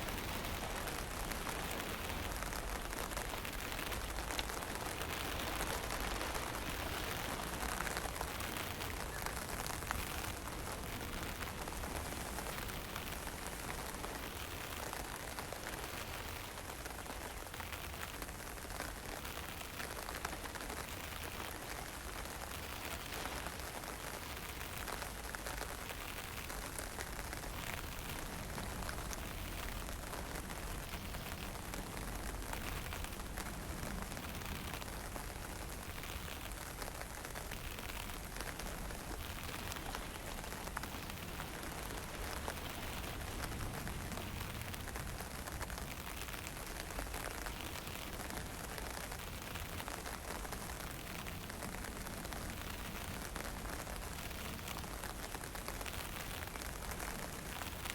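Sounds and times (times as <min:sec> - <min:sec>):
wind: 0:00.0 - 0:57.9.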